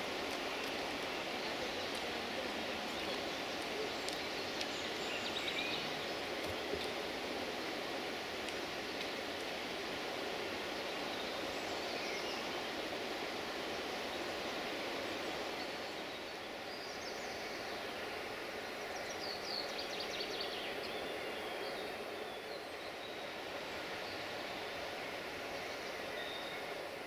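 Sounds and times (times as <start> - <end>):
rushing outdoor ambience: 0.0 - 27.0.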